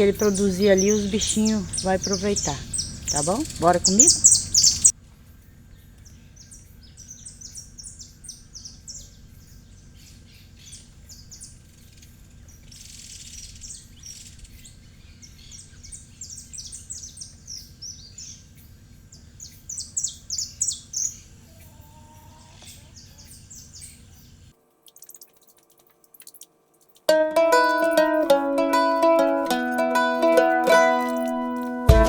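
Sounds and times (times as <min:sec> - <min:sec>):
small birds chirping: 0:00.0 - 0:31.8.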